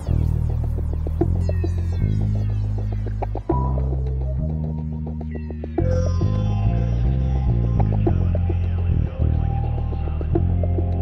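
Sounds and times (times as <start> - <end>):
instrumental music with bass: 0.0 - 11.0.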